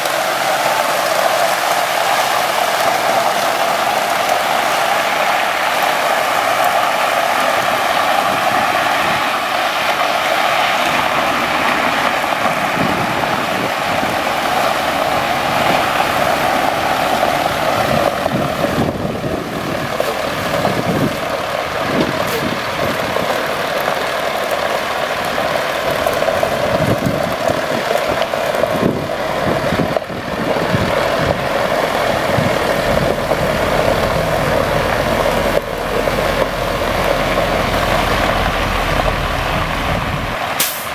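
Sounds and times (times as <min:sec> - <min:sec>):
diesel truck engine running: 0:00.0 - 0:40.9
water spraying onto gravel: 0:00.0 - 0:40.9.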